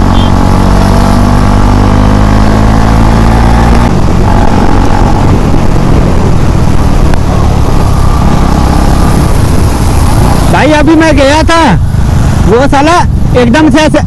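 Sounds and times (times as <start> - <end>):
motorcycle engine running: 0.0 - 14.0
wind rushing on microphone: 0.0 - 14.0.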